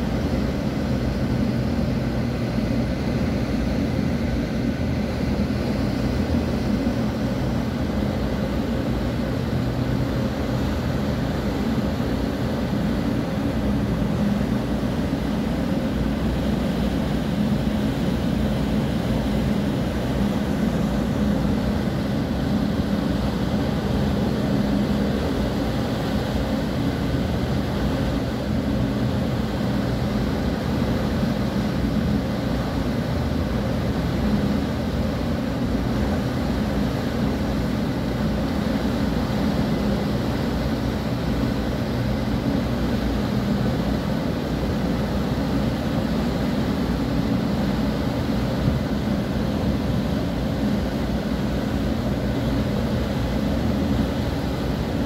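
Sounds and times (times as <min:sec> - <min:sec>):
ship engine drone: 0:00.0 - 0:55.0.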